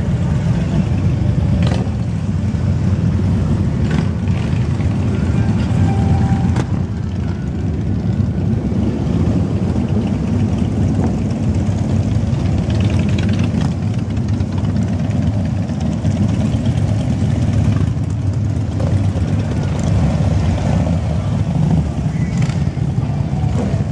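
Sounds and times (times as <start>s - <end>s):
motorcycles riding slowly past: 0.0s - 23.9s.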